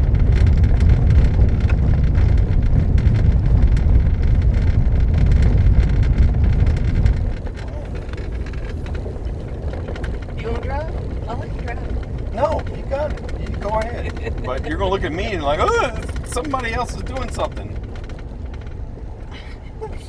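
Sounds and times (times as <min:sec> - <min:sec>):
car road noise inside cabin: 0:00.0 - 0:20.0.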